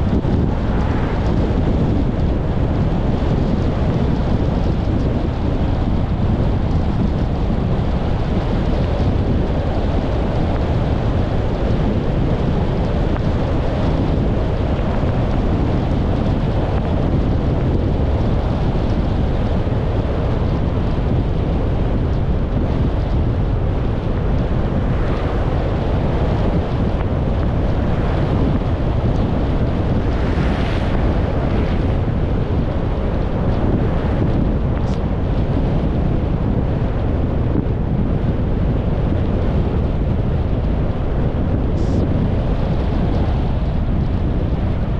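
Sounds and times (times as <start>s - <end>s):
road rumble: 0.0s - 44.9s
wind noise on microphone: 0.0s - 44.9s.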